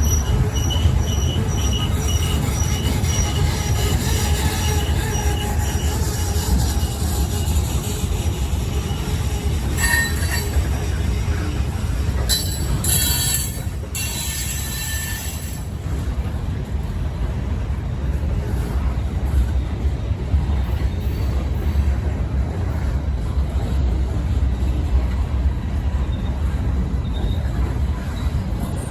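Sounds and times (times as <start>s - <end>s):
train wheels squealing: 0.0s - 16.2s, 18.6s - 23.0s, 25.9s - 28.9s
freight train rumbling: 0.0s - 28.9s.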